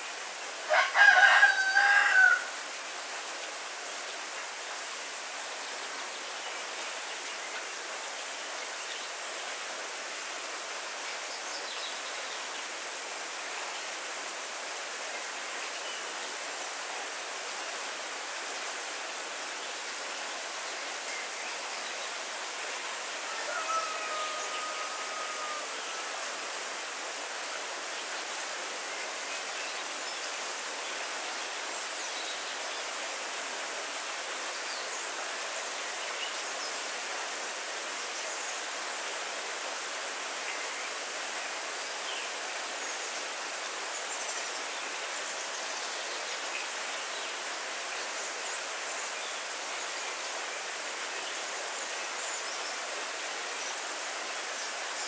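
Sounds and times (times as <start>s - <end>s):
heavy rain on leaves: 0.0s - 55.0s.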